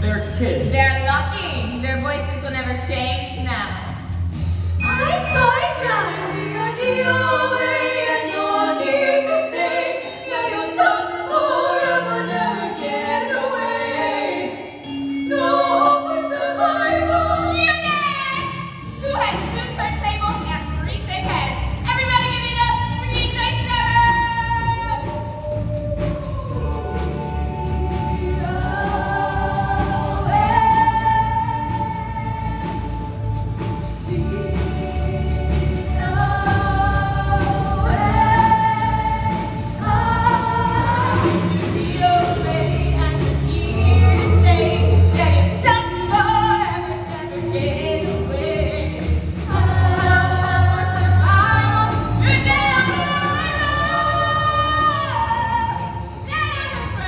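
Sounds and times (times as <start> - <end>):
backing music with steady beat: 0.0 - 7.9, 17.2 - 57.0
voices singing in harmony: 4.8 - 57.0.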